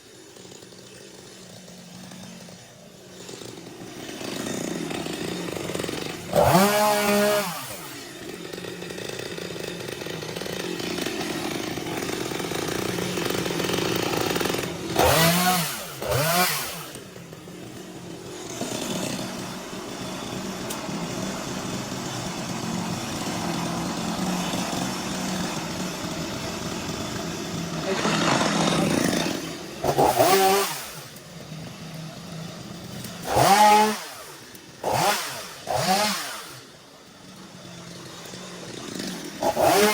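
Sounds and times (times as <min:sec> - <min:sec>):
small petrol engine revving: 0:00.0 - 0:39.9.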